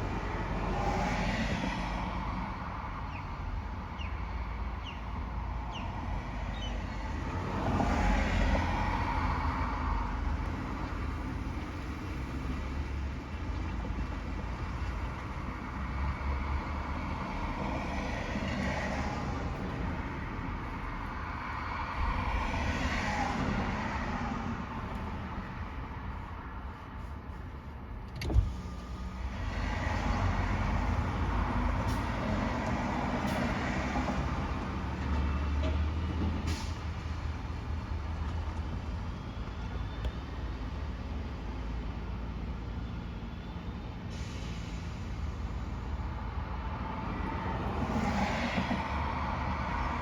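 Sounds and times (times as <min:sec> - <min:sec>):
truck engine rumble: 0:00.0 - 0:50.0
vehicles passing: 0:00.0 - 0:50.0.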